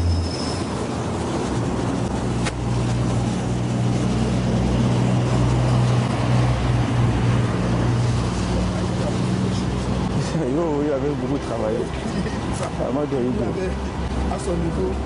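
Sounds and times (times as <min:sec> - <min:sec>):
engine humming: 0:00.0 - 0:15.0
street traffic: 0:00.0 - 0:15.0.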